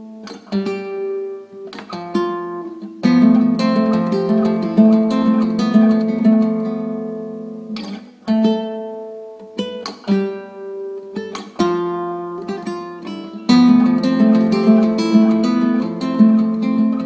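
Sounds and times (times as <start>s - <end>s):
guitar-like chords strummed: 0.0s - 17.0s.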